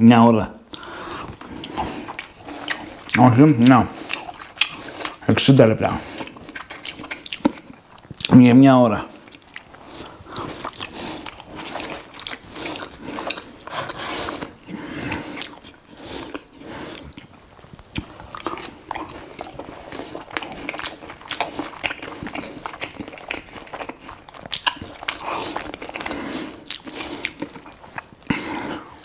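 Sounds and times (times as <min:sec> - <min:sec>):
man chewing: 0:00.7 - 0:08.4, 0:09.0 - 0:29.0.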